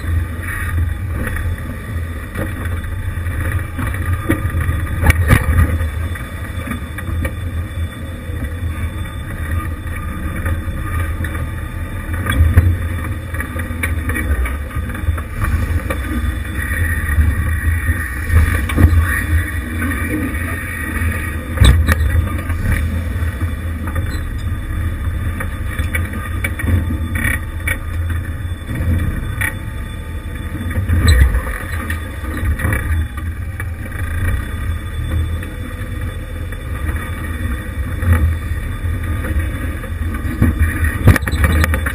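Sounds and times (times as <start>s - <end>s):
car engine running at low speed: 0.0s - 41.9s.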